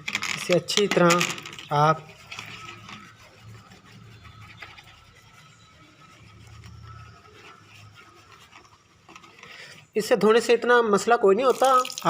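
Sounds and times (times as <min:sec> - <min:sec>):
scrubbing wet circuit board: 0:00.0 - 0:12.0.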